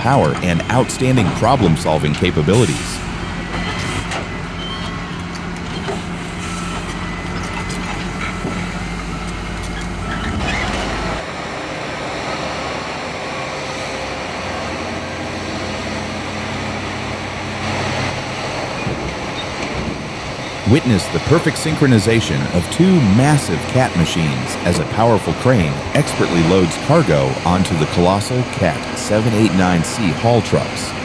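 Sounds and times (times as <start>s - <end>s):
heavy machinery engines running: 0.0s - 31.0s.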